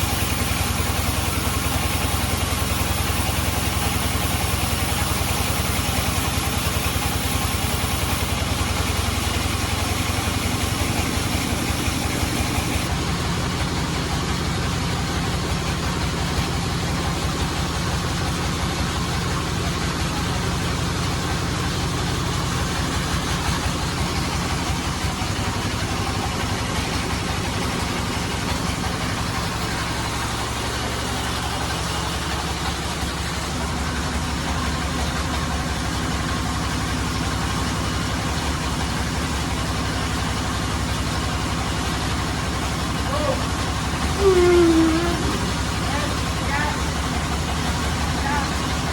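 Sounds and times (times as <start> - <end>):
low engine drone: 0.0 - 48.9
sawmill machinery running: 0.0 - 48.9.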